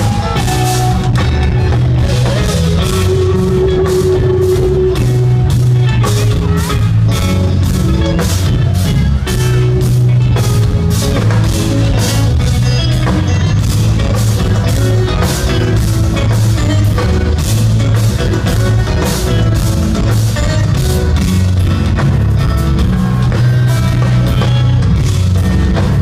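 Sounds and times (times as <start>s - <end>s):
distorted electric guitars: 0.0s - 26.0s
drum kit: 0.0s - 26.0s.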